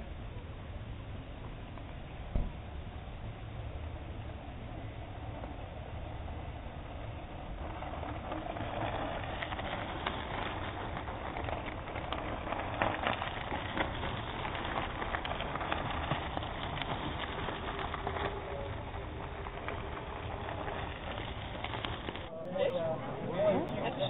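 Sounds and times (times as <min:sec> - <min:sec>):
steady low rumble: 0:00.0 - 0:24.0
bike tyres crunching on gravel: 0:01.8 - 0:24.0.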